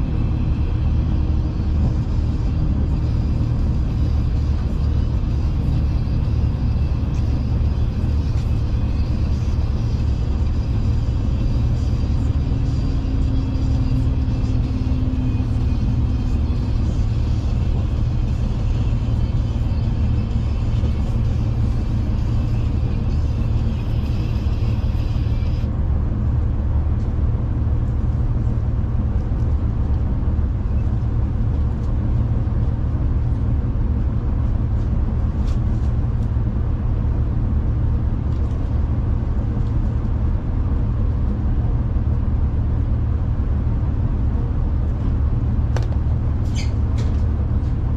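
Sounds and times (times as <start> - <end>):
train rumble inside carriage: 0.0 - 47.9.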